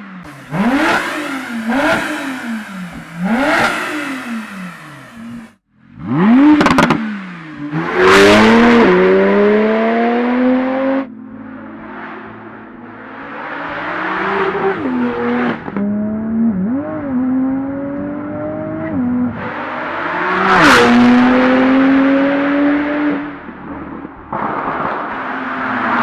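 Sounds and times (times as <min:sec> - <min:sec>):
car engine accelerating hard: 0:00.2 - 0:11.1, 0:12.8 - 0:26.0.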